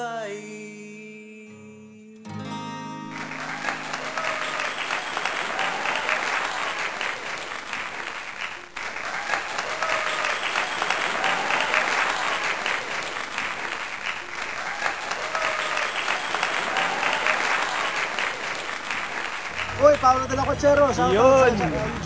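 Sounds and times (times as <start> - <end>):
group of people applauding: 2.9 - 22.0.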